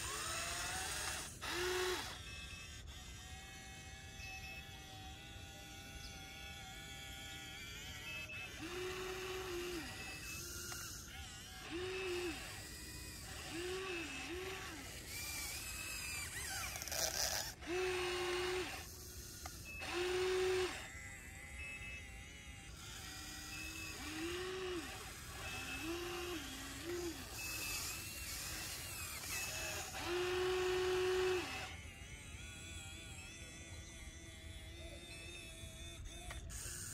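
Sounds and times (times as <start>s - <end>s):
small electric motors whining: 0.0s - 36.9s.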